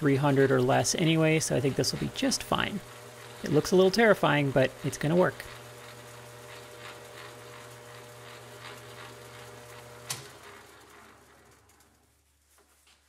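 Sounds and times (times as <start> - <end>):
lathe motor hum and whine: 0.0 - 11.3.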